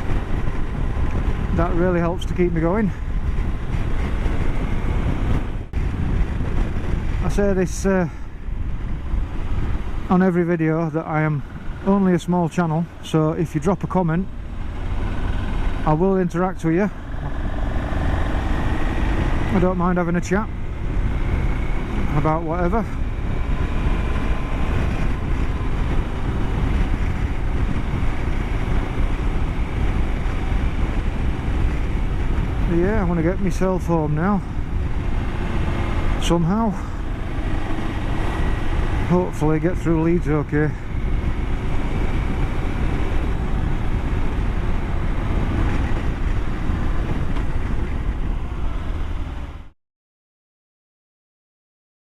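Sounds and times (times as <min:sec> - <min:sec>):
wind buffeting microphone: 0:00.0 - 0:49.7
road and engine noise: 0:00.0 - 0:49.8.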